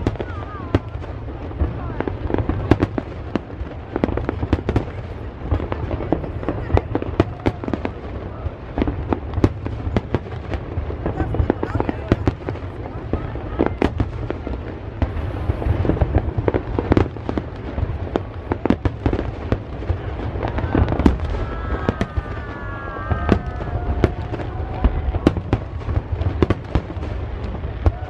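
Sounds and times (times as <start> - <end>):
fireworks bangs and crackles: 0.0 - 28.0
low rumble of bursting shells: 0.0 - 28.0.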